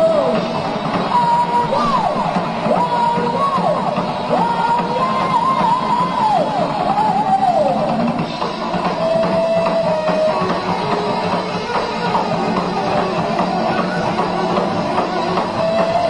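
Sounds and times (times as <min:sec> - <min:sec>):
heavy rock band: 0:00.0 - 0:16.0.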